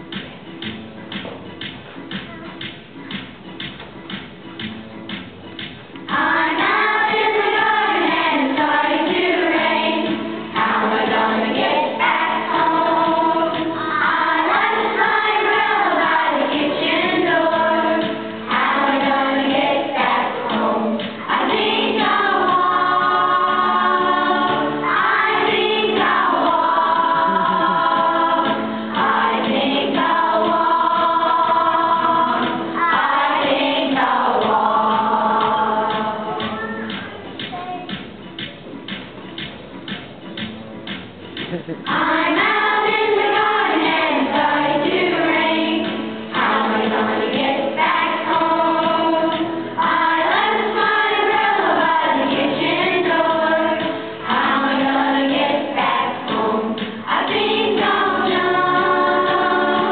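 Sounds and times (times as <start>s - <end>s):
children singing together: 6.1s - 37.0s, 41.5s - 59.9s.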